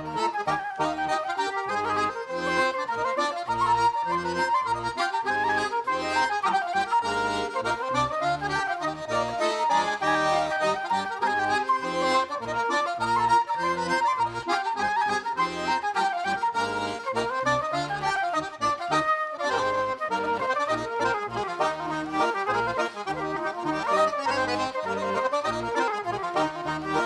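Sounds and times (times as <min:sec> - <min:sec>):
button accordion dance tune: 0:00.0 - 0:27.0.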